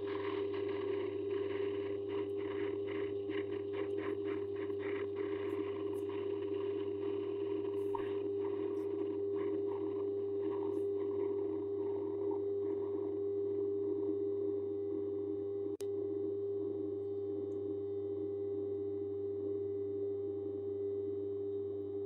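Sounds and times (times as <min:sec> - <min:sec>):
lathe motor whine and hum: 0:00.0 - 0:18.9.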